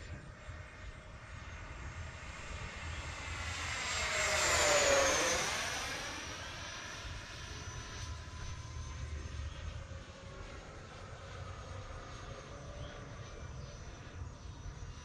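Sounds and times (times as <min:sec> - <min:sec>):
electric ducted-fan jet whine: 0:00.0 - 0:15.0.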